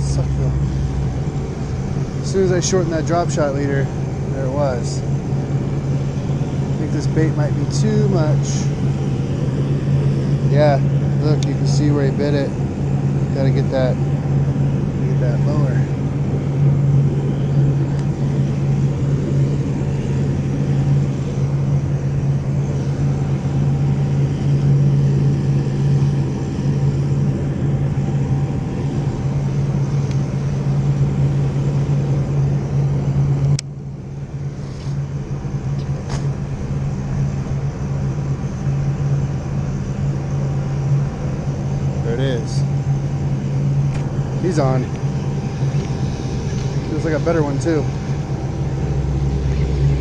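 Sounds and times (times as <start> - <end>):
low engine hum: 0.0 - 50.0.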